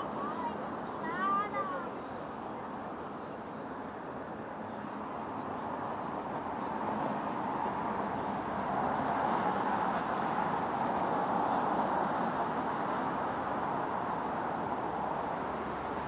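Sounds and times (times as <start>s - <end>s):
road traffic: 0.0s - 16.0s
vehicle approaching: 0.0s - 16.0s.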